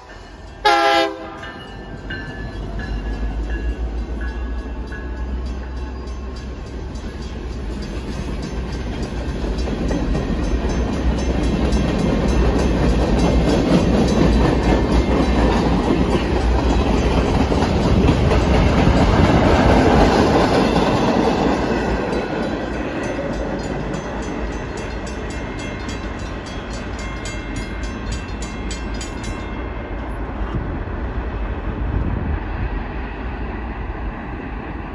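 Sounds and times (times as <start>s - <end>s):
train wheels clacking over rails: 0.0s - 30.7s
diesel locomotives passing: 0.0s - 34.9s.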